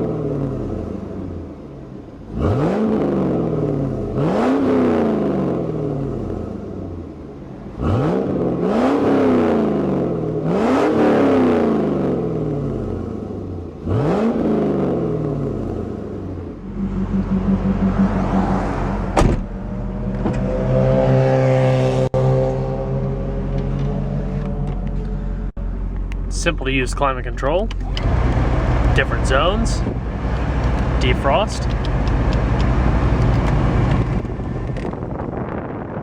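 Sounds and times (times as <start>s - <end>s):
car engine revving and idling: 0.0s - 36.0s.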